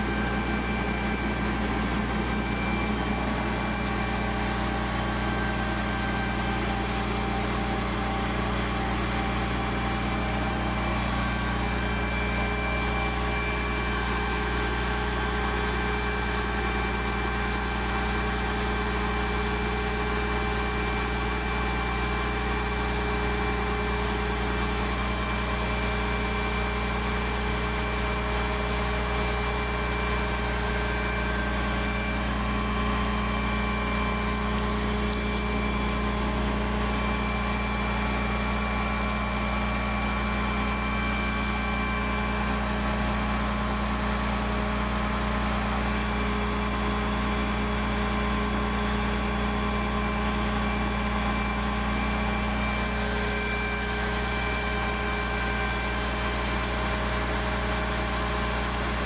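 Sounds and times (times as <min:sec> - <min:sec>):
feed auger humming and whining: 0:00.0 - 0:59.0.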